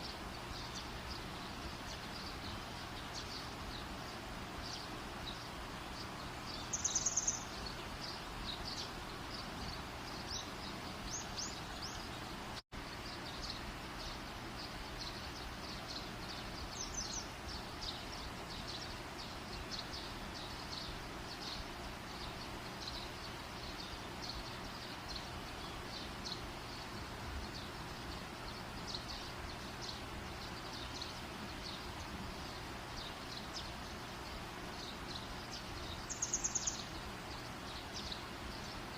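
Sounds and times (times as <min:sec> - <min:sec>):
high chirps of birds or insects: 0:00.0 - 0:38.9.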